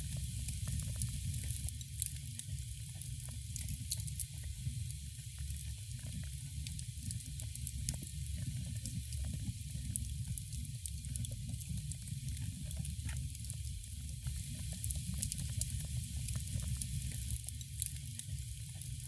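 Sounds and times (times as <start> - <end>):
fire crackles and pops: 0.0 - 19.0
wood fire hissing: 0.0 - 19.0.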